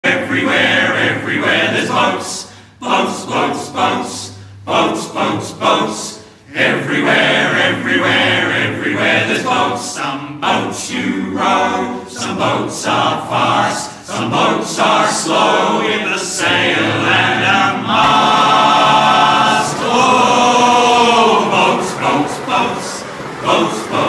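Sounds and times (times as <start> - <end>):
choir singing: 0.0 - 24.0.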